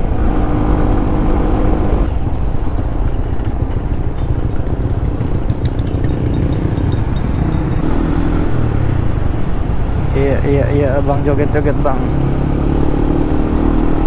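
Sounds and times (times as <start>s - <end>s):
motorcycle engine running: 0.0s - 14.0s
road rumble: 0.0s - 14.0s.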